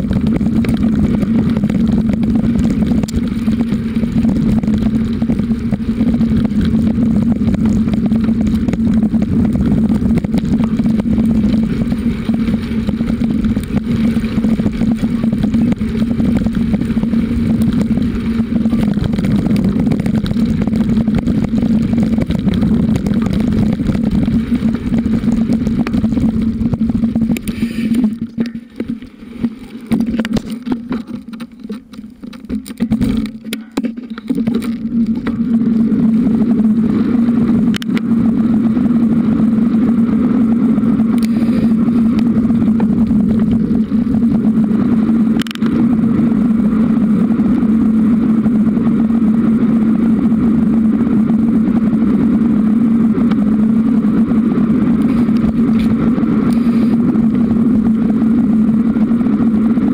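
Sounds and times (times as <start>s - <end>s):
bicycle jolting and knocking: 0.0s - 59.9s
wind rushing over microphone: 0.0s - 59.9s.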